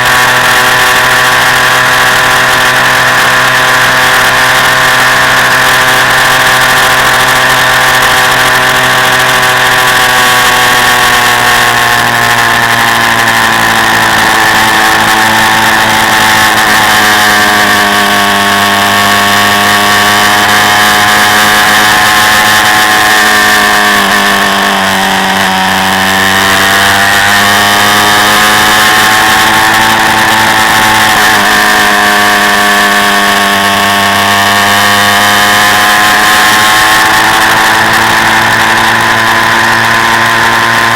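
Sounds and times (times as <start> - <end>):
quad bike engine running: 0.0 - 40.9.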